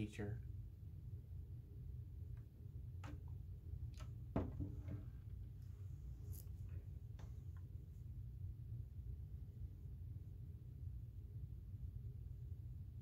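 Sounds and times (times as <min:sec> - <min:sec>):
low hum: 0:00.4 - 0:13.0.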